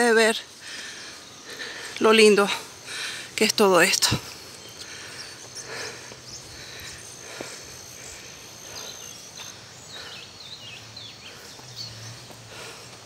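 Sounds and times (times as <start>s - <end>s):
high insect trill: 0.0s - 13.0s.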